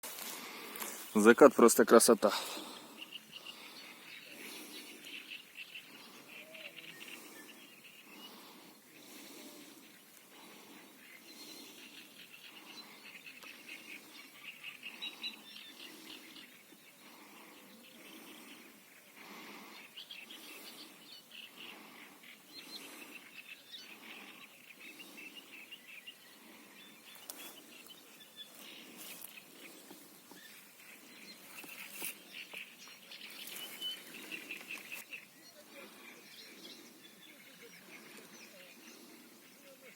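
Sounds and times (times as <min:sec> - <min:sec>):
faint bird chirping trills: 0:02.6 - 0:39.9.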